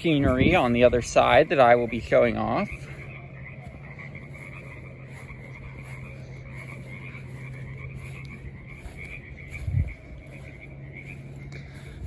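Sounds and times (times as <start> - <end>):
frogs calling: 0.0 - 12.0
low steady hum: 0.0 - 12.0.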